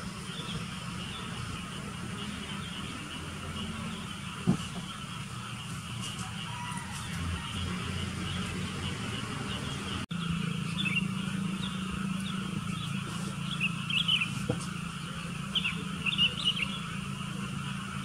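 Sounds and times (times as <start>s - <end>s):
bulbuls chirping: 0.0s - 18.0s
steady low hum: 0.0s - 18.0s.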